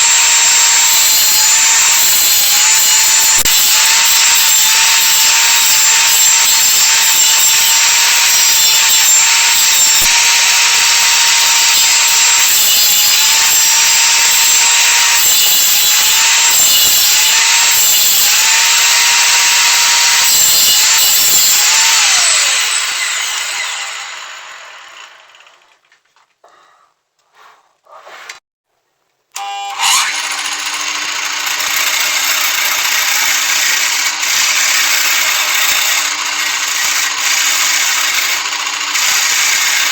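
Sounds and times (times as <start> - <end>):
lathe motor cutting wood: 0.0 - 25.7, 29.4 - 39.9.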